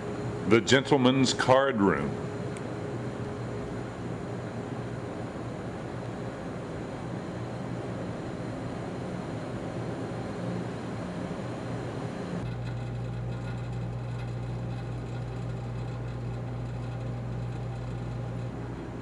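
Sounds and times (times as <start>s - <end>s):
low hum of boat machinery: 0.0s - 19.0s.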